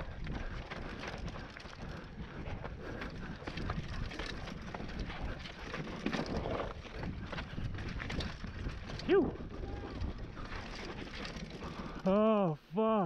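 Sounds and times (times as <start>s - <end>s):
tyres crunching over stones: 0.0s - 12.3s
bike clattering: 0.2s - 12.3s.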